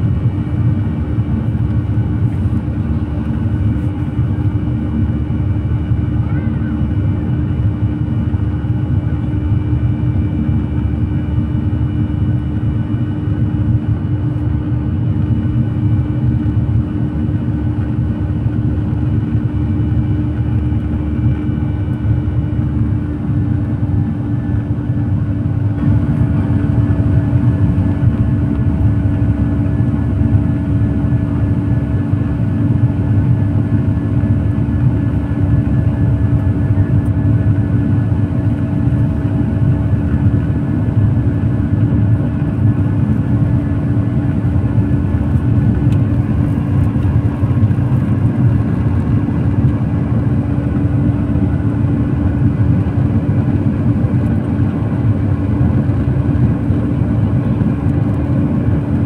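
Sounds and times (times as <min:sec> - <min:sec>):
airplane cabin engine rumble: 0:00.0 - 0:59.0
constant droning hum: 0:00.0 - 0:59.0.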